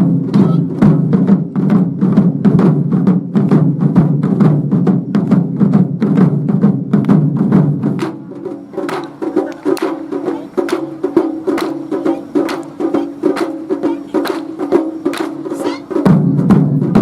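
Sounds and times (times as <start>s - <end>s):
heavy drum strikes: 0.0s - 17.0s.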